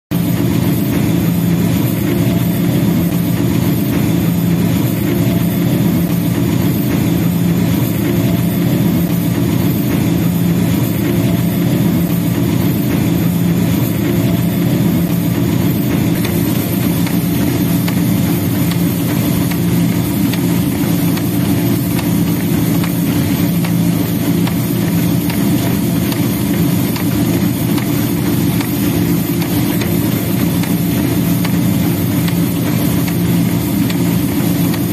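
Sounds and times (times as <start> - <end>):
diesel engine drone: 0.2 - 34.9.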